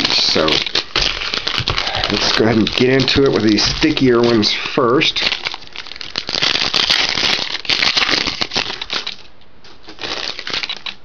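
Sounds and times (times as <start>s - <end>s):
cards rustling: 0.0s - 11.0s
foil pack tearing and crackling: 0.0s - 11.0s.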